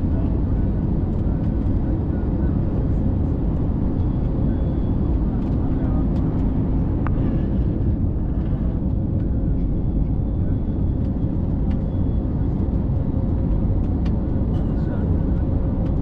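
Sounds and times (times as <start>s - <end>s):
airliner low rumble: 0.0s - 16.0s.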